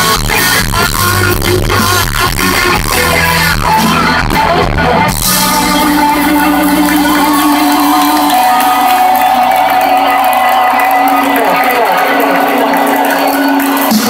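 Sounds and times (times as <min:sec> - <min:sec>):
drums: 0:00.0 - 0:14.0
live rock band playing: 0:00.0 - 0:14.0.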